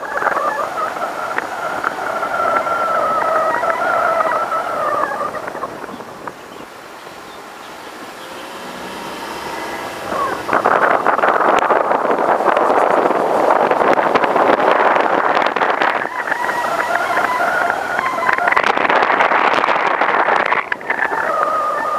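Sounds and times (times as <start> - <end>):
road and wind noise: 0.0 - 21.9
wavering whine: 0.0 - 21.9.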